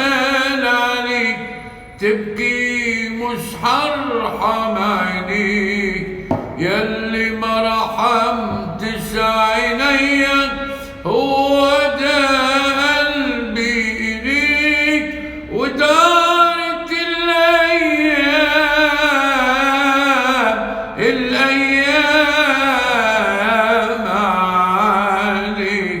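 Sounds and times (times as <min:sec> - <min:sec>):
man singing with vibrato: 0:00.0 - 0:26.0.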